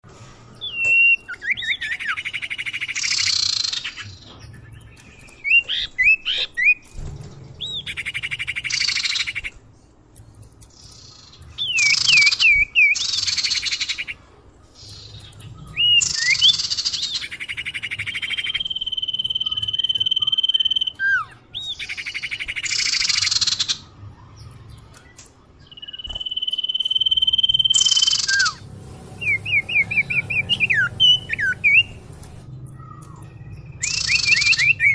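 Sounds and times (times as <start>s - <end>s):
bird calls recording: 0.5s - 9.6s, 10.2s - 34.9s.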